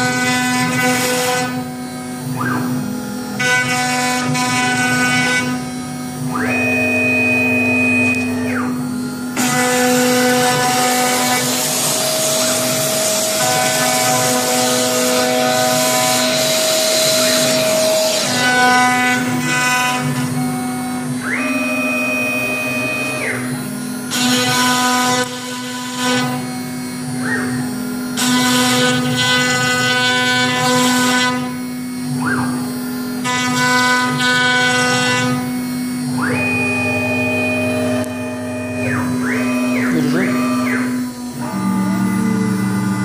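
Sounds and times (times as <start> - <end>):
axis drive motors whining: 0.0 - 43.0
cnc spindle whine: 0.0 - 43.0.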